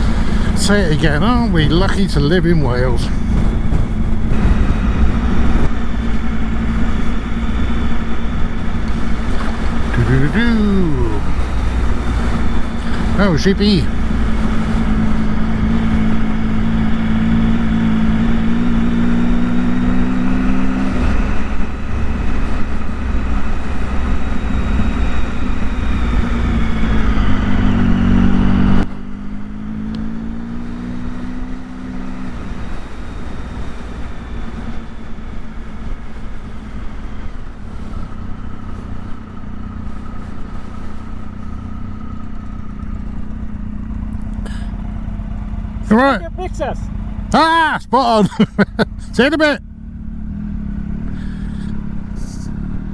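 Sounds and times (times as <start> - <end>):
motorcycle engine running: 0.0 - 52.9
road noise: 0.0 - 52.9.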